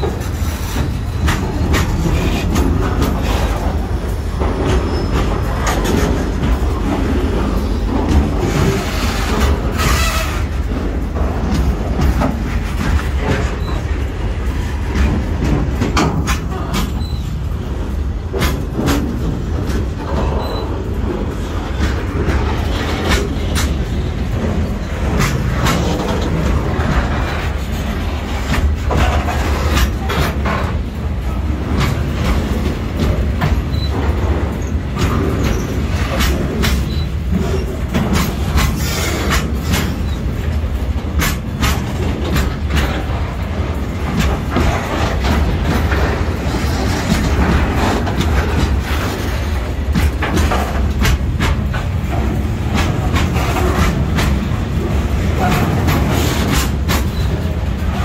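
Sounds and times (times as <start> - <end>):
freight train rumbling past: 0.0 - 58.0
train wheels clacking on rails: 0.0 - 58.0.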